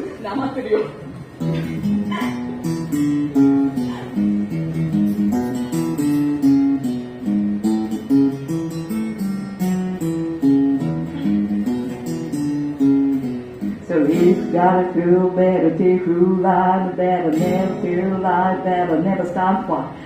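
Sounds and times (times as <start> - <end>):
acoustic guitar strummed: 1.4 - 20.0.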